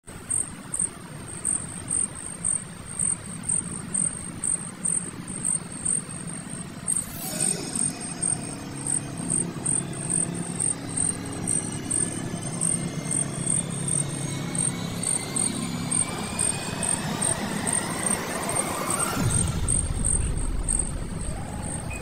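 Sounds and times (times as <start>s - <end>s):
crickets chirping: 0.1s - 22.0s
low engine drone: 0.1s - 22.0s.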